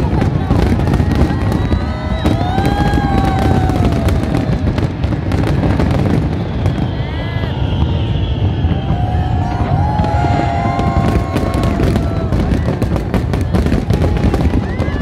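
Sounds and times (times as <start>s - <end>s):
fireworks crackling: 0.0s - 15.0s
low rumble of fireworks booms: 0.0s - 15.0s
whistling fireworks: 0.0s - 15.0s.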